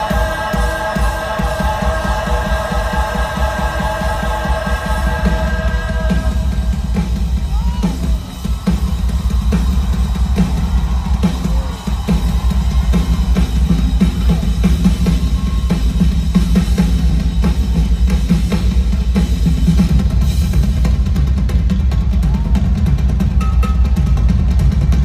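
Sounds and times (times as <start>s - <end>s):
drum kit playing a beat: 0.0s - 25.0s
rock band held chords: 0.0s - 25.0s.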